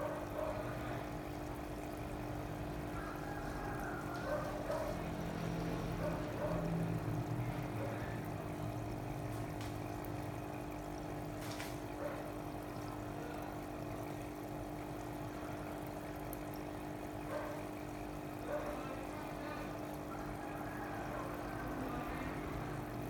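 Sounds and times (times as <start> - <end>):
pump hum: 0.0 - 23.0
water pouring and trickling: 0.0 - 23.0.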